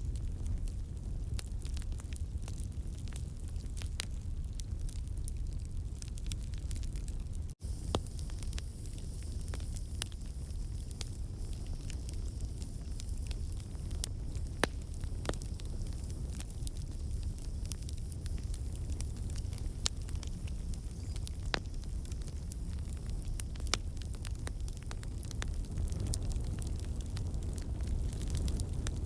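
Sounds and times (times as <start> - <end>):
campfire logs crackling: 1.3 - 29.0.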